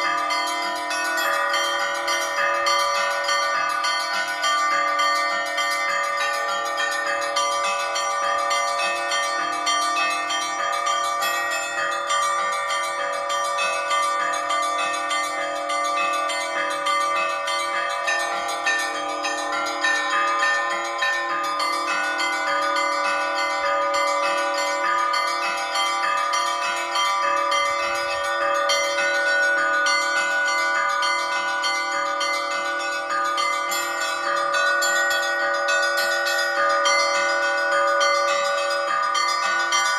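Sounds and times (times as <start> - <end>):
church bells pealing: 0.0 - 39.9
deep bell: 0.0 - 39.9.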